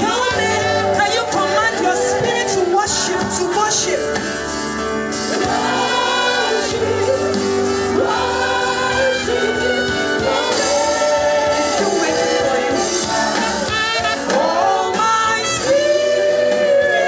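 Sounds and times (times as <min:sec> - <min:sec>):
instrumental accompaniment: 0:00.0 - 0:17.0
voices singing gospel: 0:00.0 - 0:17.0.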